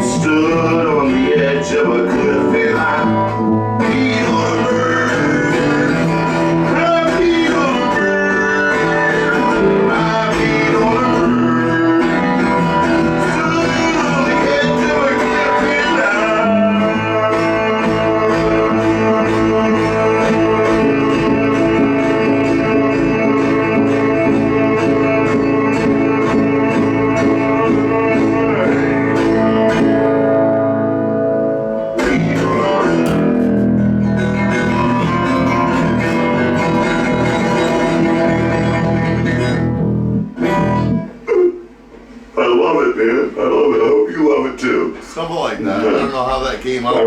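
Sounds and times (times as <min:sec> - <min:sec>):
electric bass playing: 0:00.0 - 0:41.3
acoustic guitar playing: 0:00.0 - 0:47.0.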